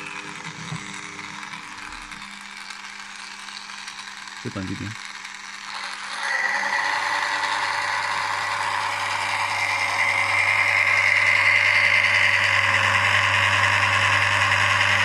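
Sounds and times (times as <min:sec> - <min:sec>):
electric drill motor under load: 0:00.0 - 0:15.0.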